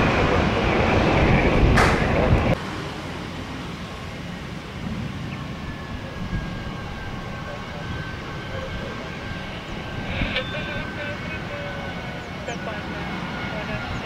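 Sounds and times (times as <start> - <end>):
distant engine hum: 0.0 - 14.0
jet engines whining and roaring: 0.0 - 14.0.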